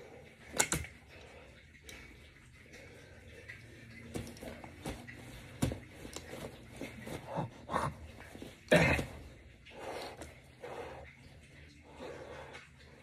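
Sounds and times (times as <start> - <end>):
heavy breathing: 1.1 - 13.0.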